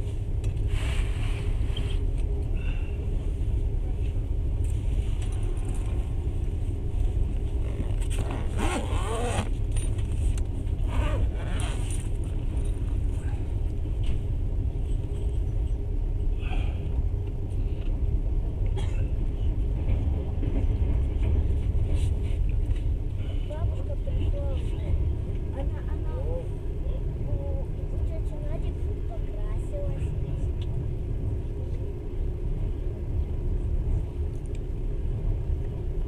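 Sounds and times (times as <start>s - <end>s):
train low rumble: 0.0s - 36.0s.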